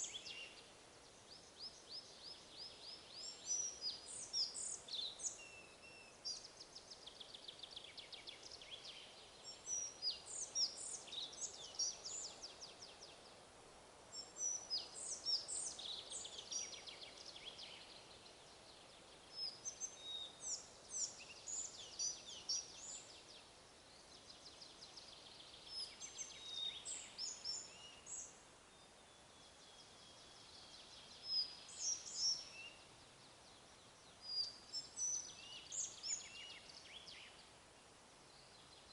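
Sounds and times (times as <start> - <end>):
songbirds singing: 0.0 - 38.9
wind in trees: 0.0 - 38.9.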